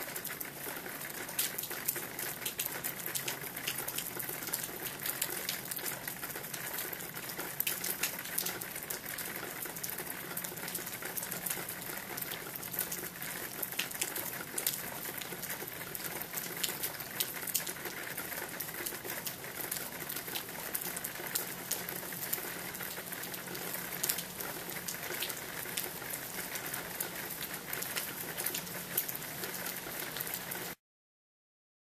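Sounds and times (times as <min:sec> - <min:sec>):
raindrops ticking close by: 0:00.0 - 0:30.8
steady rain falling: 0:00.0 - 0:30.8.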